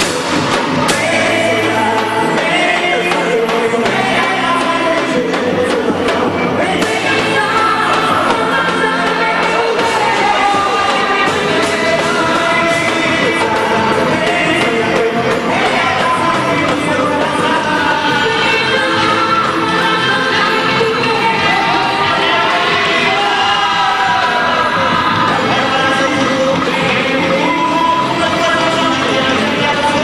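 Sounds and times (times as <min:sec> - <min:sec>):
festive folk music with singing: 0:00.0 - 0:30.0.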